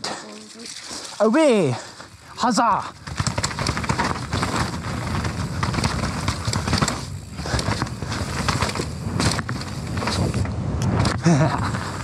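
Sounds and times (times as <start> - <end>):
mountain bike clattering: 0.8 - 12.0.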